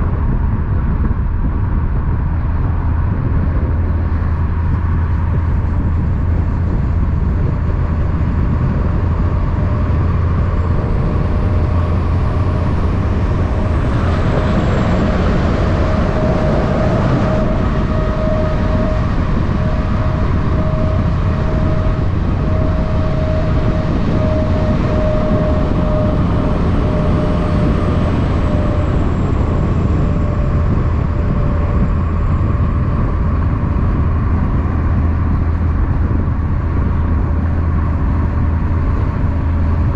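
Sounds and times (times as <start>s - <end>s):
highway traffic rumble: 0.0s - 39.9s
vehicle passing drone: 0.0s - 39.9s.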